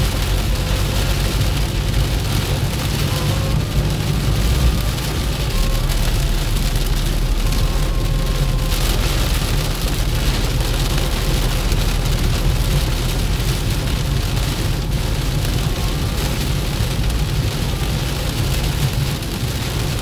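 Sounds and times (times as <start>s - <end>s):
engine and tyres rumbling: 0.0s - 20.0s
heavy rain on a car: 0.0s - 20.0s.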